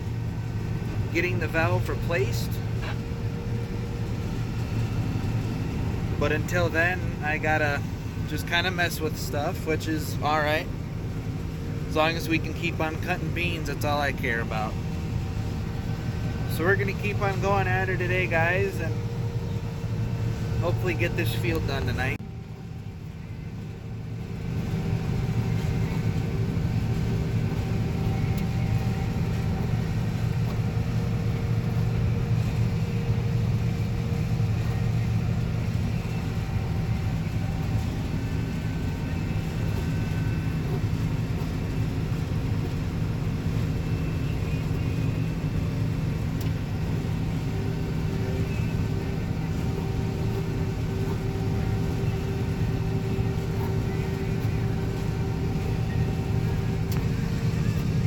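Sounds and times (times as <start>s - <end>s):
combine harvester engine drone: 0.0s - 58.0s
faint steady whines: 0.0s - 58.0s.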